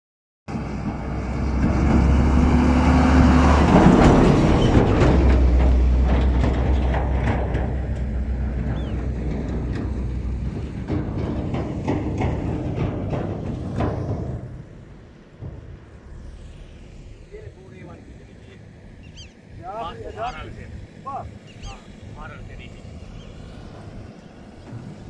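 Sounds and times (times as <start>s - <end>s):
dump truck driving past: 0.5s - 25.0s.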